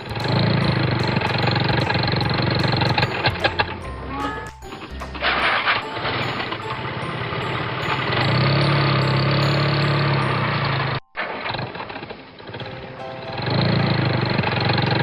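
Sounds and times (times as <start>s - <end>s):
light background music: 0.0s - 11.0s, 12.6s - 15.0s
engine running: 0.0s - 15.0s.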